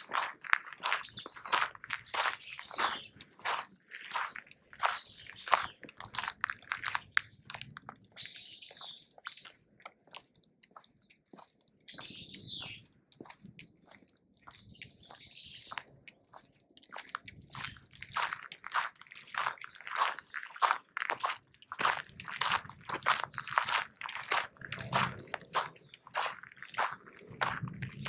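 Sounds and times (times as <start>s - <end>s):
bird chirps: 0.0s - 28.0s
footsteps crunching on forest path: 0.0s - 28.0s.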